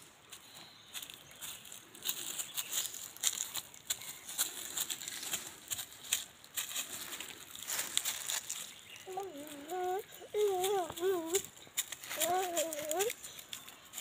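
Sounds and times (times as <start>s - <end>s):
leaves crackling underfoot: 0.0s - 14.0s.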